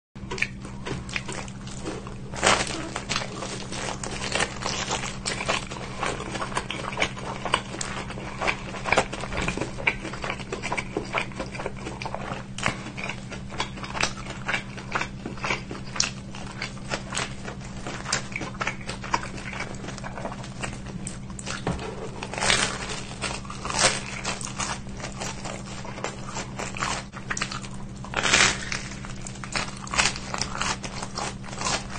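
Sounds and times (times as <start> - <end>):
crunching and chewing pizza: 0.2 - 31.9
steady low hum: 0.2 - 31.9.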